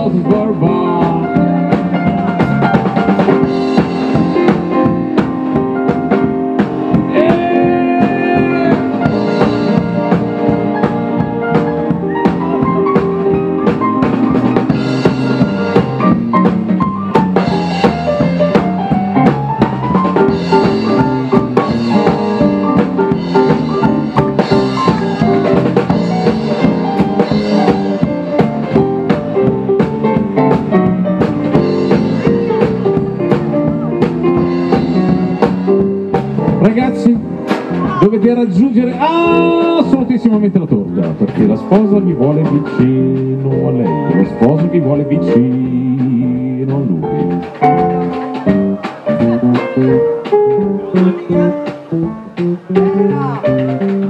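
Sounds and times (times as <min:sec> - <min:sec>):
drum kit steady beat: 0:00.0 - 0:54.0
melodic lead line sliding: 0:00.0 - 0:54.0
swing band playing: 0:00.0 - 0:54.0.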